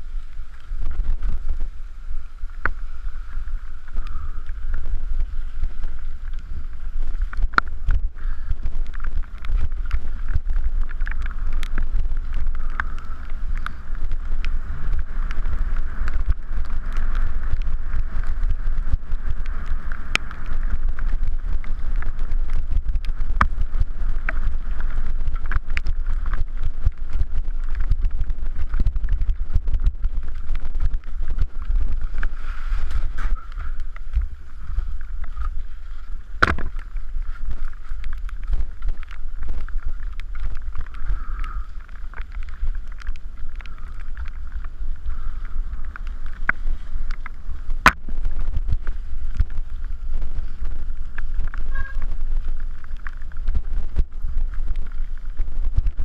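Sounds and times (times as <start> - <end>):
bike rattling over stones: 0.0 - 56.0
tyres rumbling on dirt trail: 0.0 - 56.0
wind on microphone: 0.0 - 56.0.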